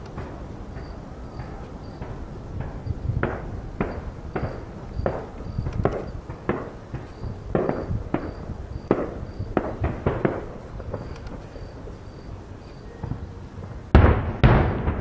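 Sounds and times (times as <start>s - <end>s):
firework shells bursting: 0.0s - 12.2s.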